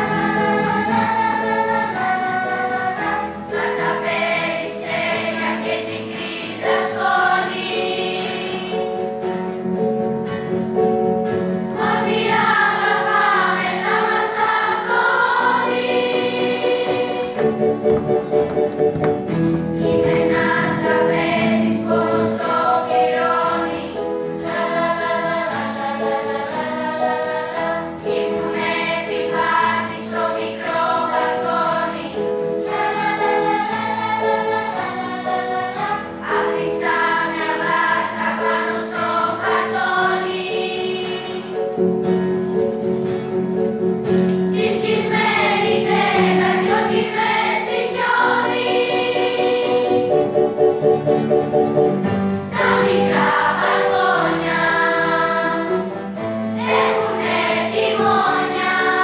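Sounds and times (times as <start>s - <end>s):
children's choir singing: 0.0s - 43.0s, 44.1s - 59.0s.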